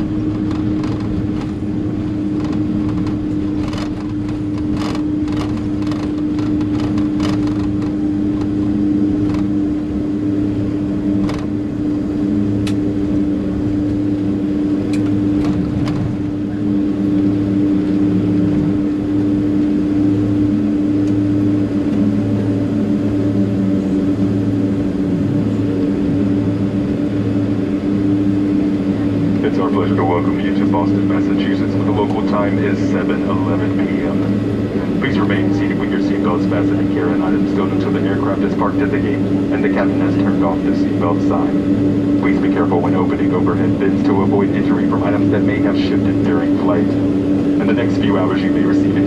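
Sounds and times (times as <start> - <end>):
jet engine drone in cabin: 0.0 - 49.0.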